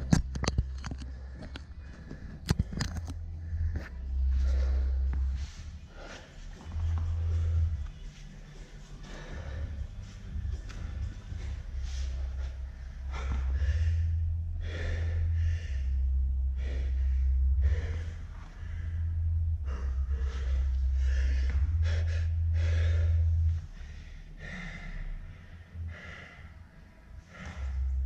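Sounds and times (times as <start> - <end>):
loud low hum: 0.0 - 28.0.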